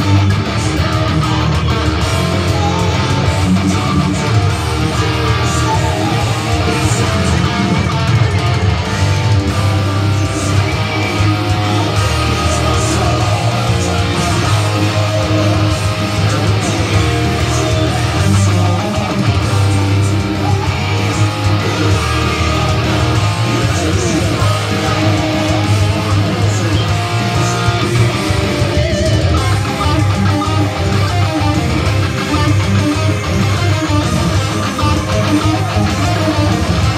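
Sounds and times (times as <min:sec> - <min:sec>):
electric guitar playing: 0:00.0 - 0:36.9.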